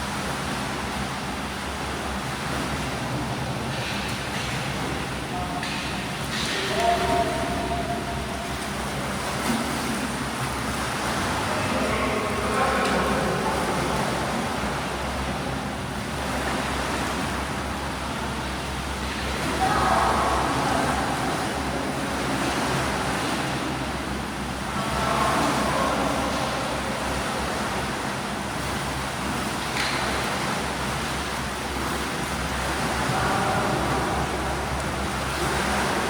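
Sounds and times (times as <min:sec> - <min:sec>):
swimmers splashing water: 0:00.0 - 0:36.0.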